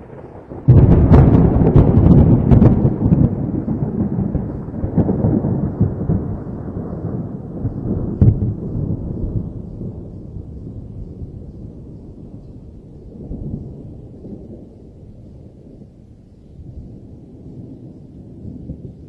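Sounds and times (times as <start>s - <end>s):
deep thunder rumble: 0.0s - 19.0s
thunder crackling: 0.0s - 19.0s.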